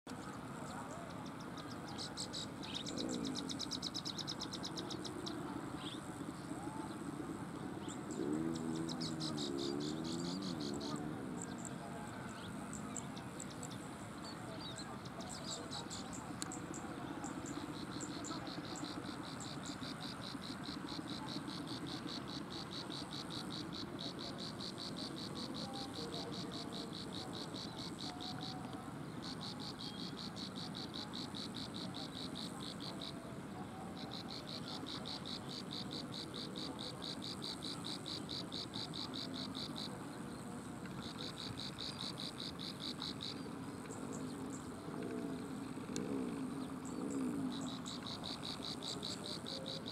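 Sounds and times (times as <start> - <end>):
bird singing high insect-like notes: 0.1 - 49.9.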